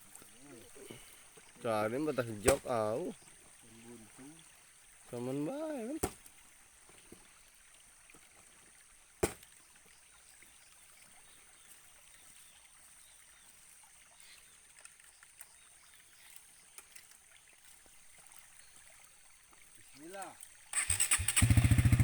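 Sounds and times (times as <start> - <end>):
faint water: 0.0 - 22.0.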